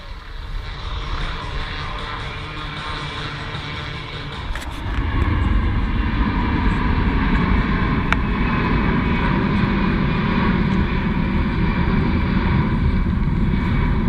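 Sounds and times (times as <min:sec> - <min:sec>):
aircraft engine rumbling: 0:00.0 - 0:14.0.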